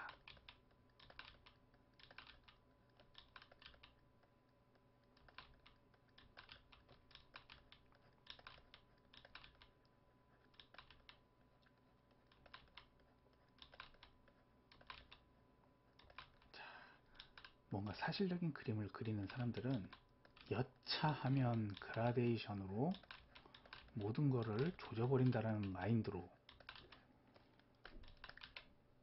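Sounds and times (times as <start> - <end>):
computer keyboard clicks: 0.0 - 4.3, 5.0 - 9.7, 10.5 - 11.2, 12.1 - 15.2, 16.0 - 17.6, 19.1 - 28.7
faint steady hum: 0.0 - 29.0.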